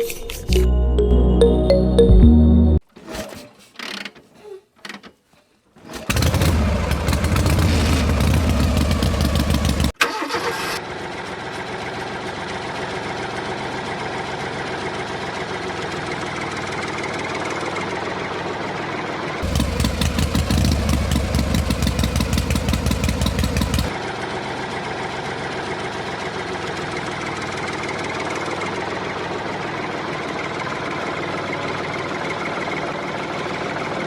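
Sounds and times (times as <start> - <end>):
engine starting and running: 2.8 - 5.2, 5.8 - 18.4, 19.4 - 33.8.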